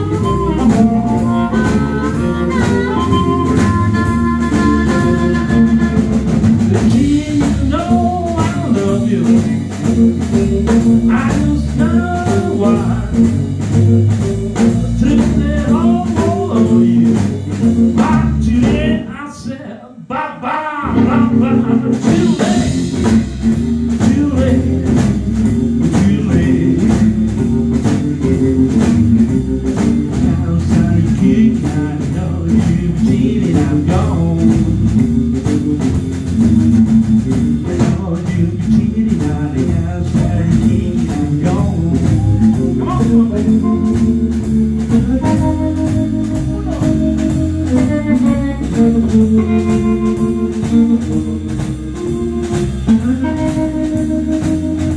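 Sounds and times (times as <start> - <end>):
electric guitar: 0.0 - 19.0, 20.8 - 38.3, 40.9 - 54.9
drum kit beat: 0.0 - 19.1, 20.8 - 54.9
bass guitar: 0.0 - 19.7, 20.4 - 54.9.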